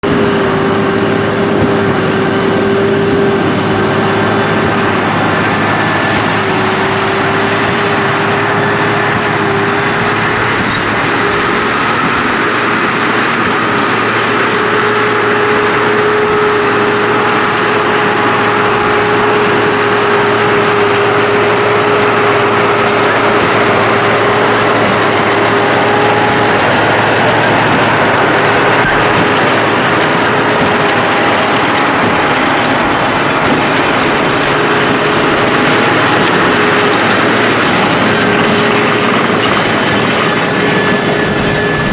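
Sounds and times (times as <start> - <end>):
steady machine whine: 0.0 - 41.9
tractor and baler running: 0.0 - 41.9.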